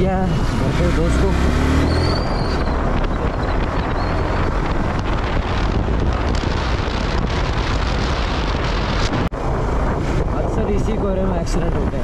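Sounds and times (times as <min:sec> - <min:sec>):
motorcycle engine rumble: 0:00.0 - 0:12.0
wind rushing over microphone: 0:00.0 - 0:12.0.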